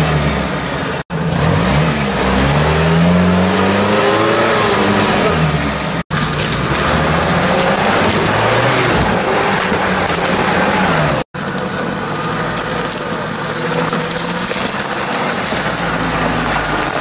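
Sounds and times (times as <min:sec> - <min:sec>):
vehicle engine under load: 0:00.0 - 0:17.0.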